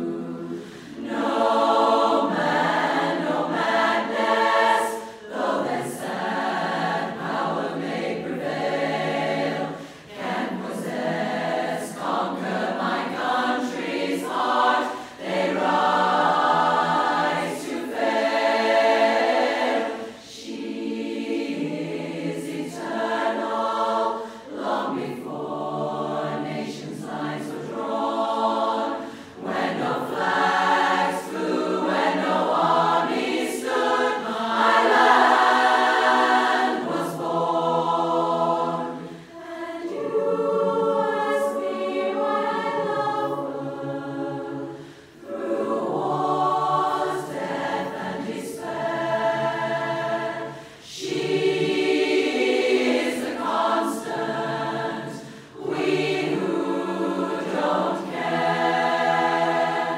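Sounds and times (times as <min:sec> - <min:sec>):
women's chorus singing a cappella: 0:00.0 - 0:59.9.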